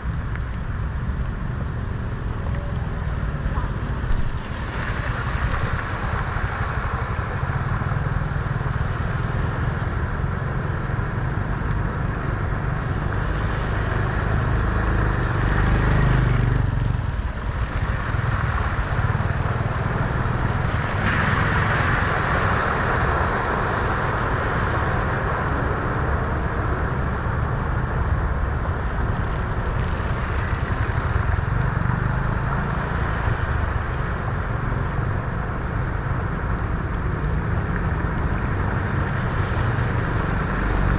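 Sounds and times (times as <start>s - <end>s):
vehicles splashing through water: 0.0s - 40.9s.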